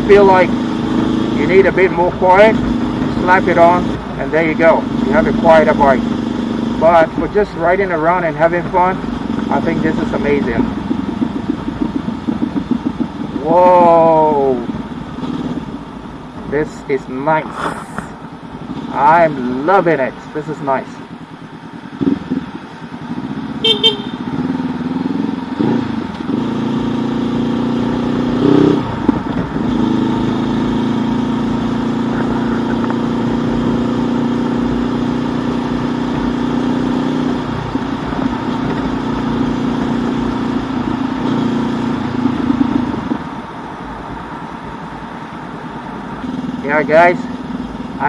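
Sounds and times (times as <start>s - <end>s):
motorcycle engine with loud exhaust: 0.0s - 48.0s.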